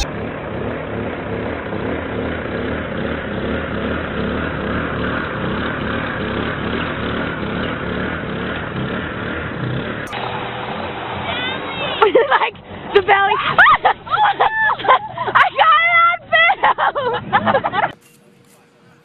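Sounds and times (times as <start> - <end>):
car engine and tyres: 0.0 - 19.0.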